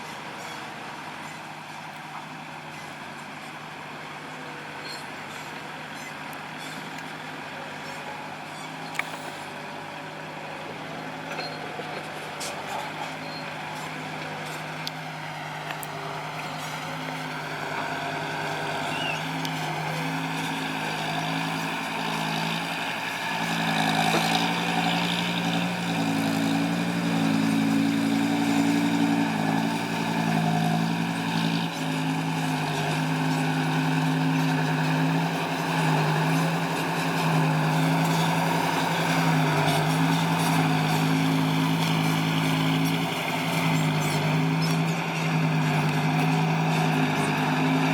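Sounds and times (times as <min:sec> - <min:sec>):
heavy diesel engine under load: 0:00.0 - 0:47.9.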